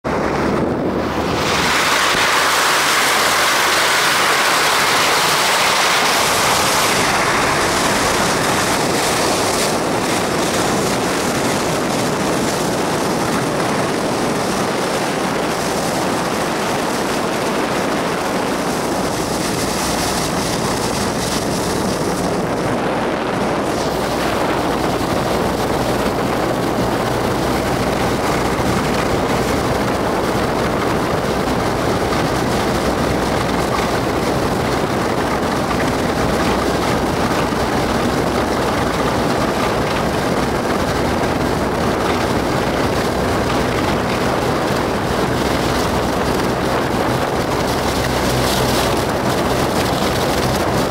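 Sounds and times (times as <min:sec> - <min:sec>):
boat engine drone: 0:00.0 - 0:50.9
rush of water and wind: 0:00.0 - 0:50.9.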